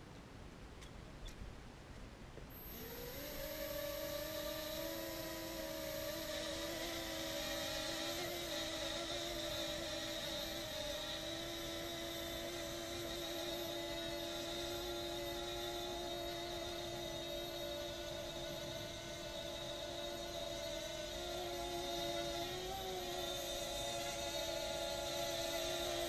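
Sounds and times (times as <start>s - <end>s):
drone motors whining: 2.5s - 26.0s.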